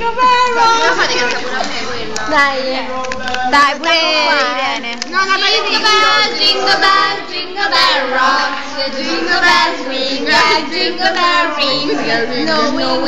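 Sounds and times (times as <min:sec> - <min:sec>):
girls singing together: 0:00.0 - 0:13.0.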